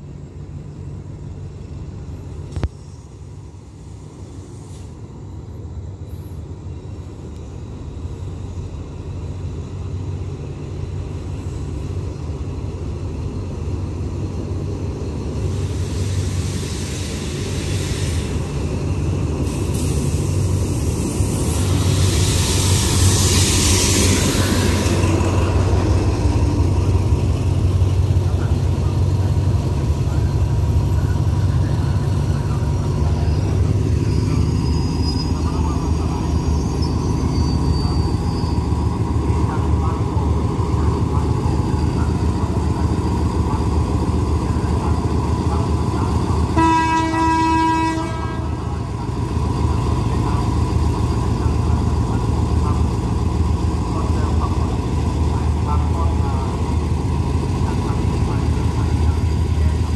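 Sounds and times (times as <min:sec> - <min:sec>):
locomotive engine hum: 0:00.0 - 0:59.9.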